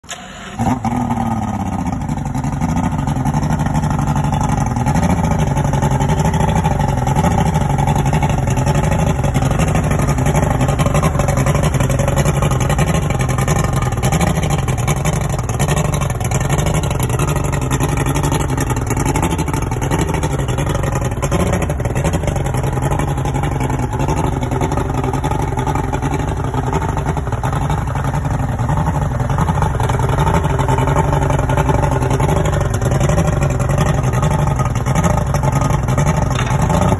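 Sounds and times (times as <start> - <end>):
outboard motor idling: 0.0 - 36.9.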